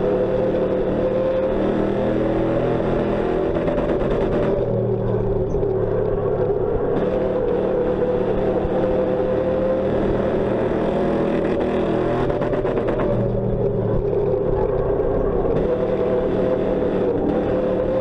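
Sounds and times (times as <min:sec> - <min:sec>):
race car engine running: 0:00.0 - 0:18.0.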